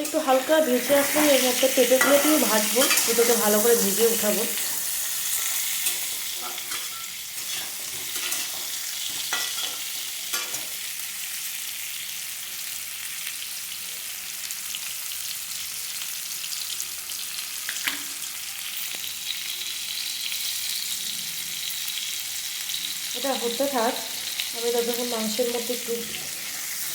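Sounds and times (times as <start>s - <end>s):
potatoes sizzling in hot oil: 0.0s - 26.9s.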